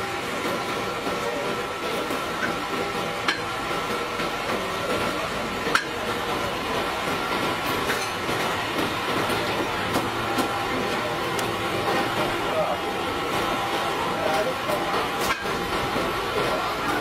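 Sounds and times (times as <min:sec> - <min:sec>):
busy street stall din: 0:00.0 - 0:17.0.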